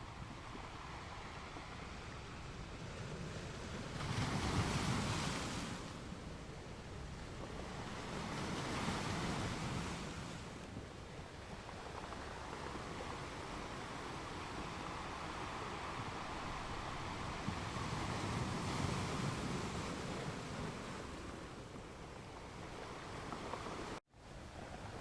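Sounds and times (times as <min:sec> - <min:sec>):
ocean waves surf hiss: 0:00.0 - 0:25.0.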